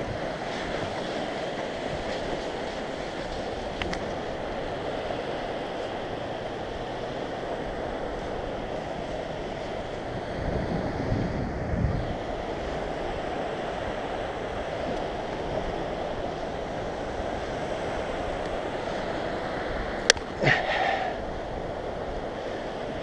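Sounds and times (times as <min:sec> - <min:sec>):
ocean surf breaking: 0:00.0 - 0:23.0
wind on microphone: 0:00.0 - 0:23.0.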